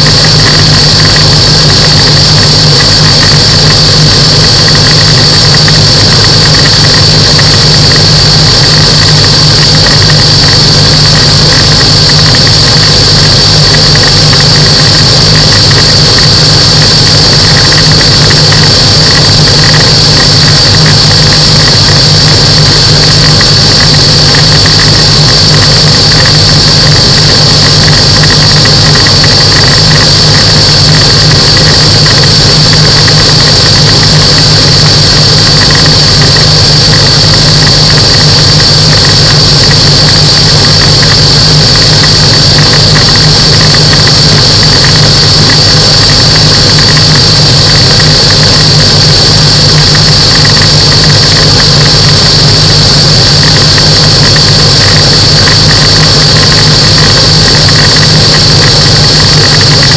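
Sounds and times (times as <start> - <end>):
microlight aircraft engine droning: 0.0 - 59.9.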